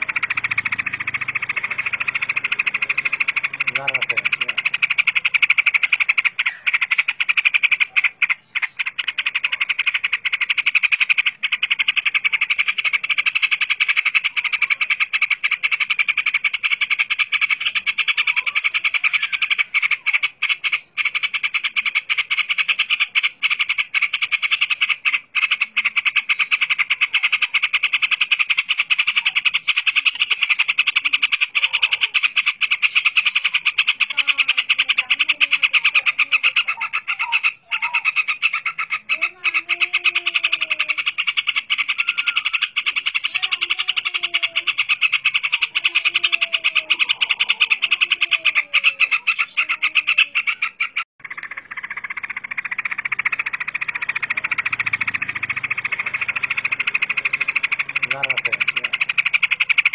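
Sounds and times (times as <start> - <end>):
bird singing fast rolling chatter: 0.0 - 59.9.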